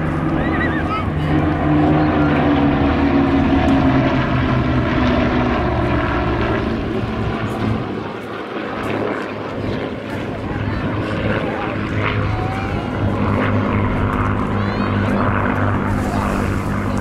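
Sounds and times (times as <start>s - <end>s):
propeller aircraft flying past: 0.0s - 17.0s.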